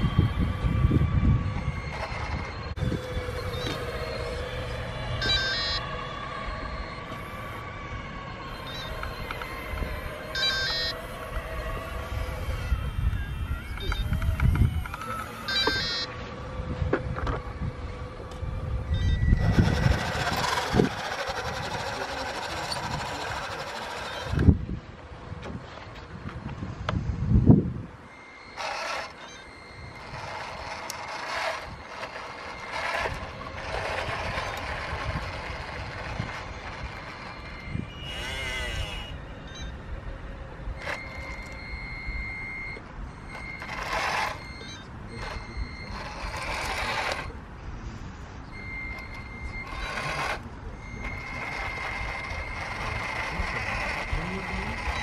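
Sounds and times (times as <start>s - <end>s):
high-pitched motor whine: 0.0s - 55.0s
low running noise: 0.0s - 55.0s.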